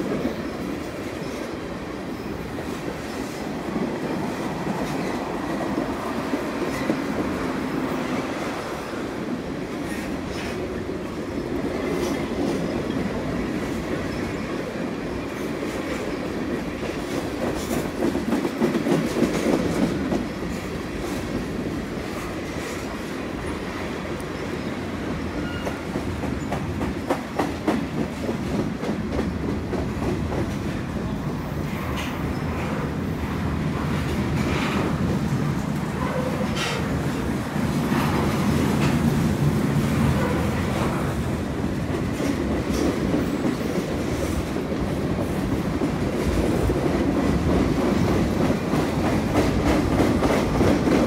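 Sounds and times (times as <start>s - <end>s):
train cars clacking: 0.0s - 51.0s
train wheels rumbling on rails: 0.0s - 51.0s.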